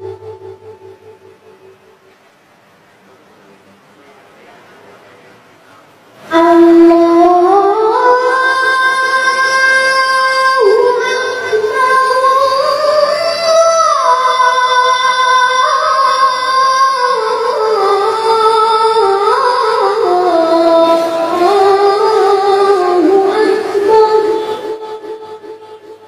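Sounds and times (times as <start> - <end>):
boy chanting call to prayer: 3.9 - 26.0.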